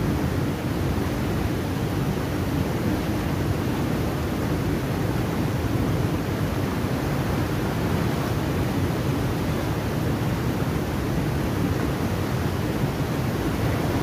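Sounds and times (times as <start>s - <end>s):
water rushing from sluice gates: 0.0s - 14.0s.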